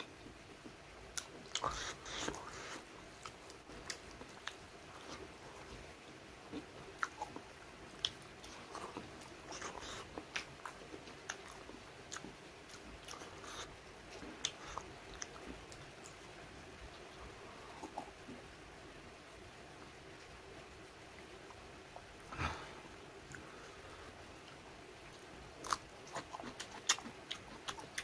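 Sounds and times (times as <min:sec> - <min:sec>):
man chewing food: 0:00.0 - 0:18.6, 0:21.2 - 0:28.0.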